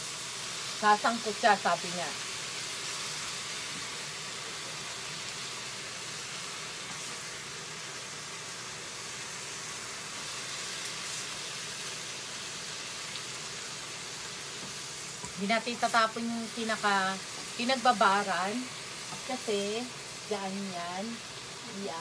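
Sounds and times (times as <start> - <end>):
chicken and onion sizzling in pan: 0.0 - 22.0.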